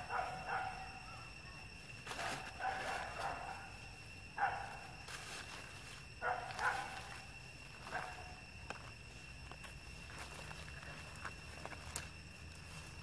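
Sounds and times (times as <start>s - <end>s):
faint high-pitched drone: 0.0s - 13.0s.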